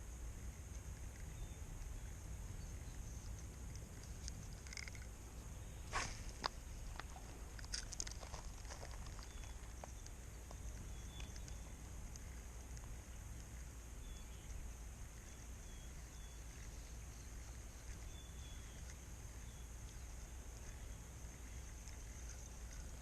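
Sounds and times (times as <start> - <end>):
faint high hiss: 0.0 - 23.0
low steady rumble: 0.0 - 23.0.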